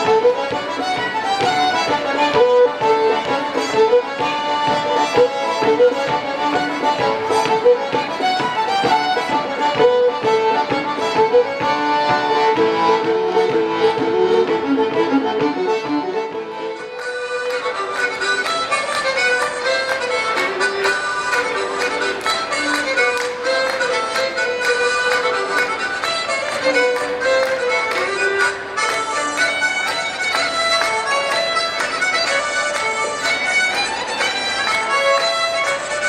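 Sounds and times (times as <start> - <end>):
live folk band playing: 0.0 - 36.0.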